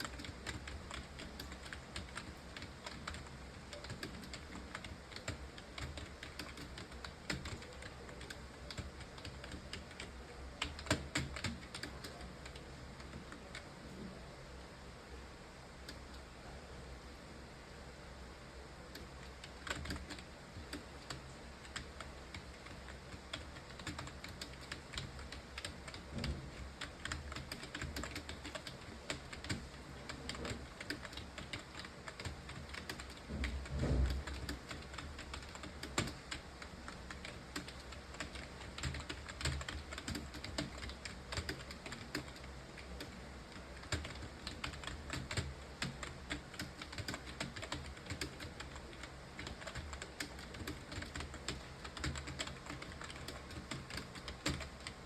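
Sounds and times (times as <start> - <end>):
keyboard typing: 0.0 - 13.7, 18.9 - 55.0.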